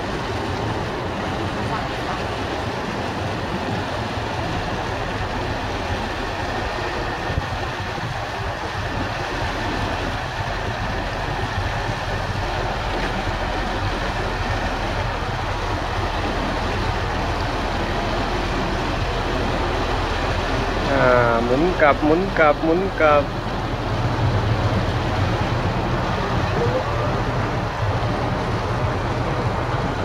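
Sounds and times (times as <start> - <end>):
boat engine rumbling: 0.0 - 30.0
water churning at hull: 0.0 - 30.0.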